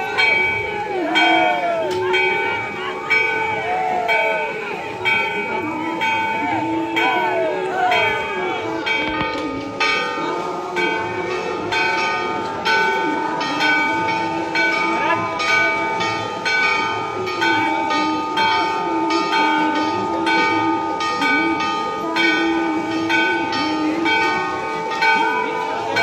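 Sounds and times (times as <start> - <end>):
crowd voices: 0.0 - 26.0
temple bells ringing: 0.0 - 26.0.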